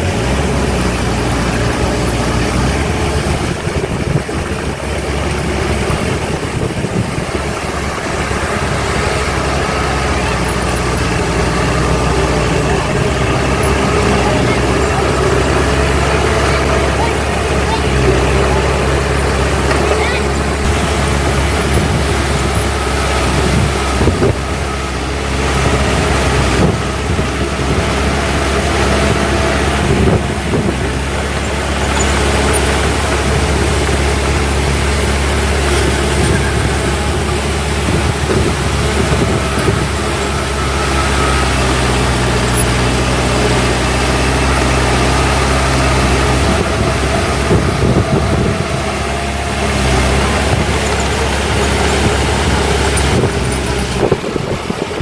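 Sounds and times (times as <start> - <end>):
heavy machinery diesel engines: 0.0 - 55.0.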